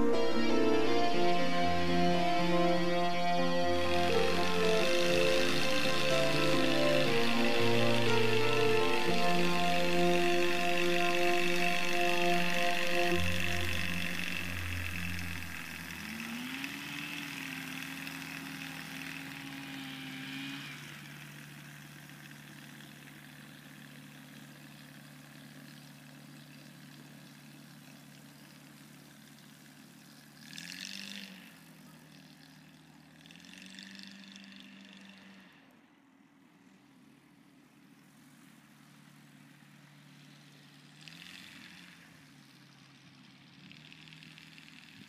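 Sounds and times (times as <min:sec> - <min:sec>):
propeller aircraft engine running: 0:00.0 - 0:35.6, 0:38.0 - 0:45.0.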